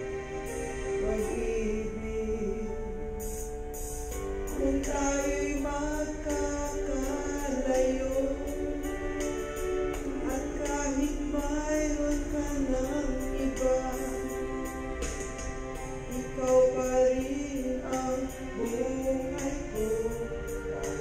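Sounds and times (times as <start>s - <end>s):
backing track with ticking beat: 3.2s - 21.0s.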